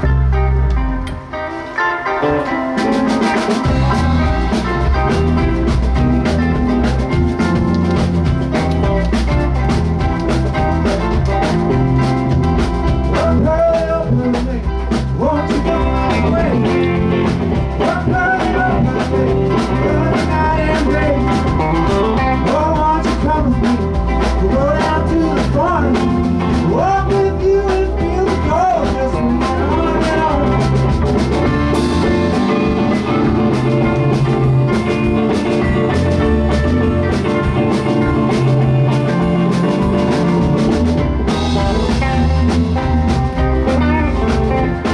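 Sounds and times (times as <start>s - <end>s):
live band playing blues-rock: 0.0s - 44.9s
drum kit beat: 2.2s - 44.9s.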